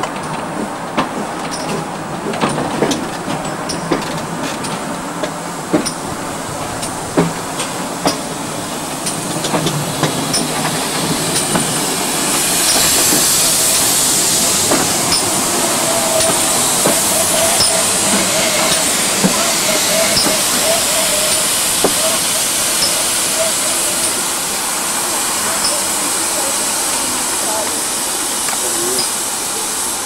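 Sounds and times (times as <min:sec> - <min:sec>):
wheels clicking over rail joints: 0:00.0 - 0:24.3
loud steam hiss: 0:00.0 - 0:30.0.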